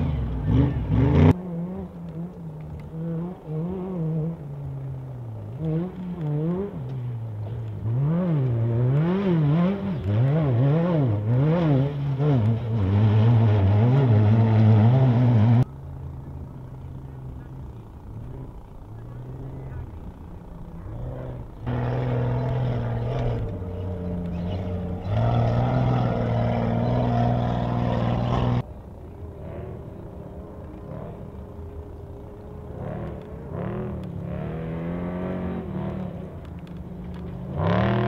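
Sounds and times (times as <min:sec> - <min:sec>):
truck engines revving: 0:00.0 - 0:38.0.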